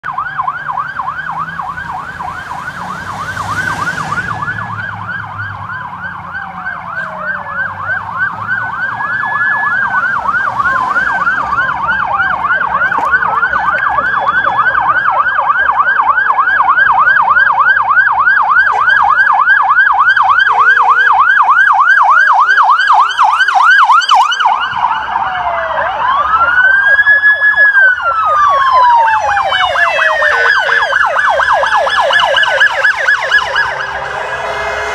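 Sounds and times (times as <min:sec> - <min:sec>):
siren yelping: 0:00.0 - 0:34.9
sirens wailing: 0:00.0 - 0:34.9.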